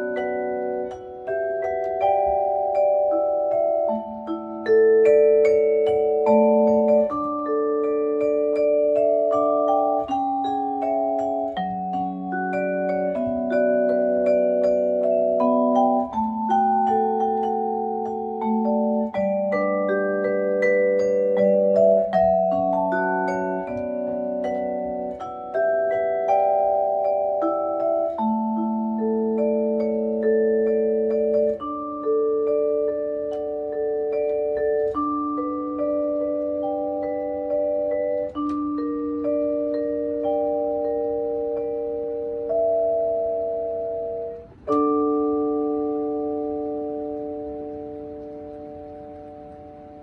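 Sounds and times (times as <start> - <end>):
vibraphone pop ballad melody: 0.0 - 50.0.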